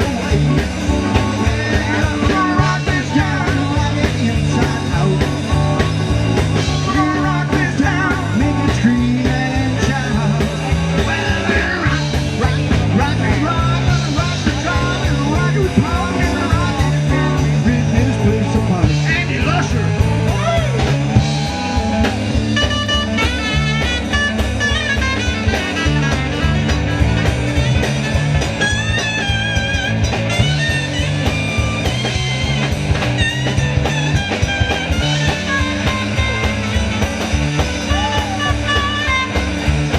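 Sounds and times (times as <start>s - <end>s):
lead electric guitar bending notes: 0.0s - 39.9s
rock band playing: 0.0s - 39.9s.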